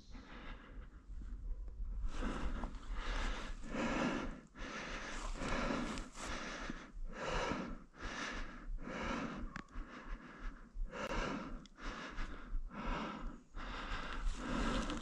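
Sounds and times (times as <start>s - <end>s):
person breathing heavily: 0.0s - 15.0s.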